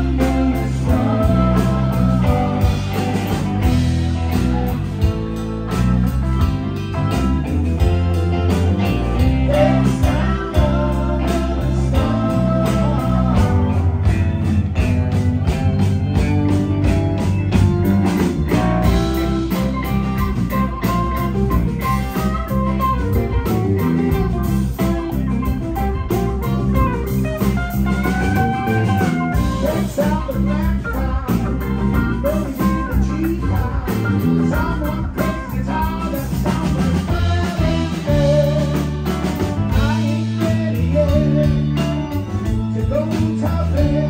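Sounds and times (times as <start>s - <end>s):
electric guitar with bent notes: 0.0s - 44.0s
steady drum beat: 0.0s - 44.0s
sustained bass: 0.0s - 44.0s.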